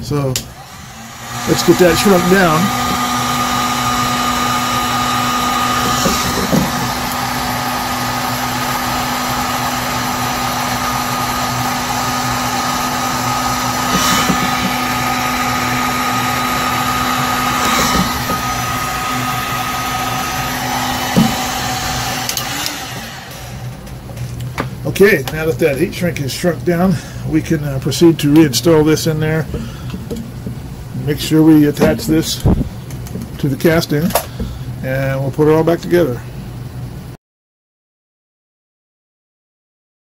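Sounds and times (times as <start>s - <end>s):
heat gun fan whine: 0.0s - 37.2s.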